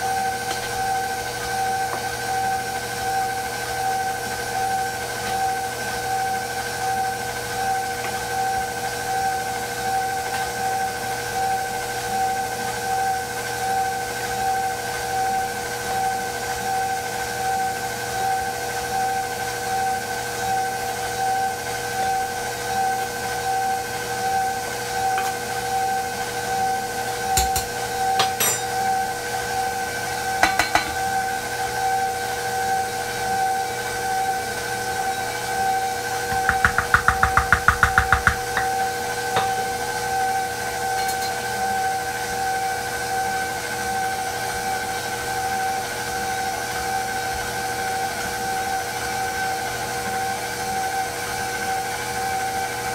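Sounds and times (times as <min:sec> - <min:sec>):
stand mixer motor whine: 0:00.0 - 0:52.9.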